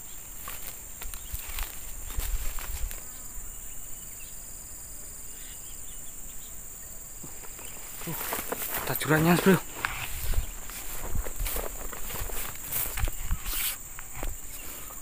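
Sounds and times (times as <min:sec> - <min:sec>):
rustling vegetation: 0:00.0 - 0:04.4, 0:06.9 - 0:15.0
insects shrilling: 0:00.0 - 0:15.0.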